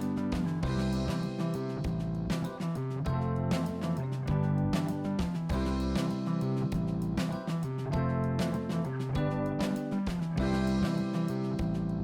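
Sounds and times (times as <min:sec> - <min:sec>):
guitar instrumental music: 0:00.0 - 0:12.0.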